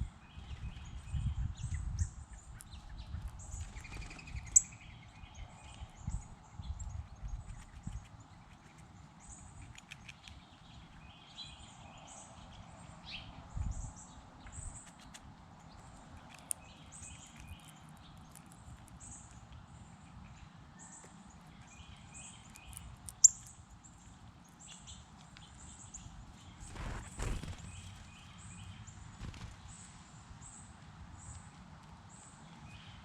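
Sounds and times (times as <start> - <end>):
small songbirds chirping: 0.0 - 33.0.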